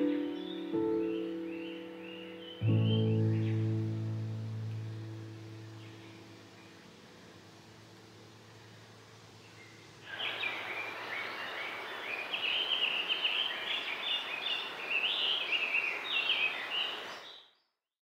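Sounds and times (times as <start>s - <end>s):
steady outdoor hiss: 0.0s - 17.4s
songbirds chirping and warbling: 0.0s - 17.8s.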